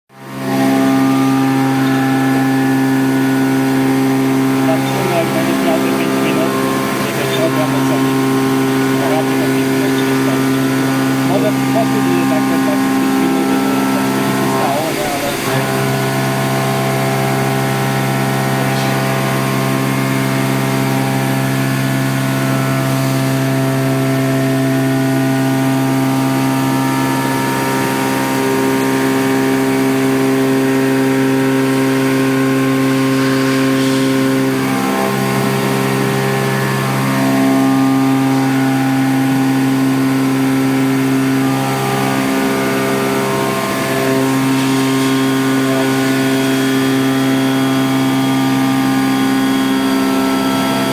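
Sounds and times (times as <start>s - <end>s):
milling machine tone: 0.3s - 50.9s.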